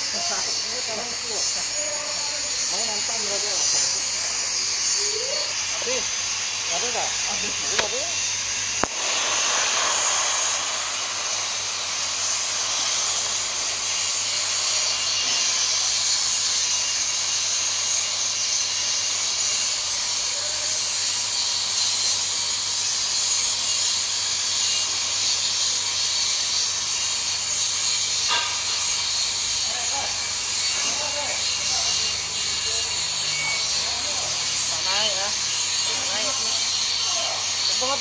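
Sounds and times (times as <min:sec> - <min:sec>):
welding arc hissing: 0:00.0 - 0:38.0.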